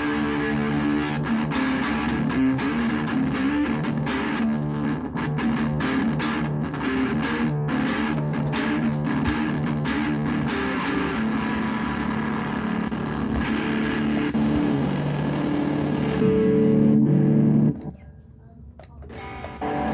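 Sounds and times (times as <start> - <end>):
electric guitar through amp: 0.0 - 18.0, 19.1 - 19.9.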